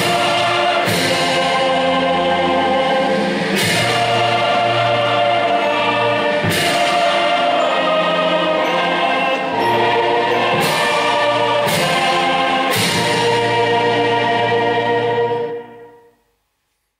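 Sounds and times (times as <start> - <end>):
choir singing held chords: 0.0 - 16.3.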